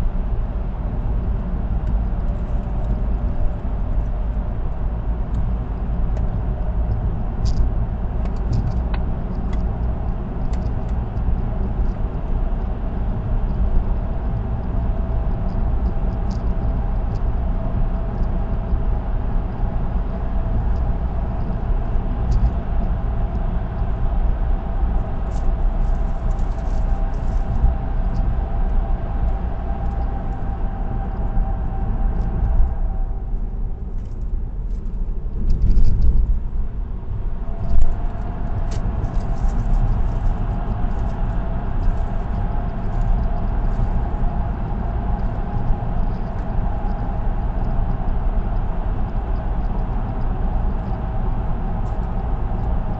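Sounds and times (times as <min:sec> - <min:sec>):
low rumble: 0:00.0 - 0:52.9
tyre and road noise hum: 0:00.0 - 0:52.9.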